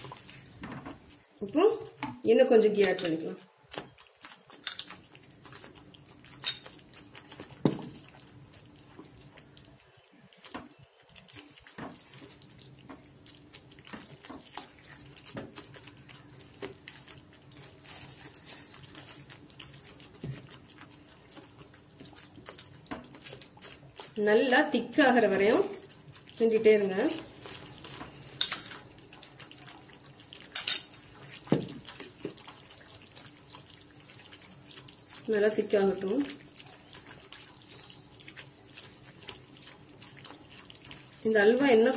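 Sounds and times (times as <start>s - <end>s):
spatula stirring sticky mixture: 0.0s - 41.9s
wet squelching and plopping: 3.4s - 41.9s.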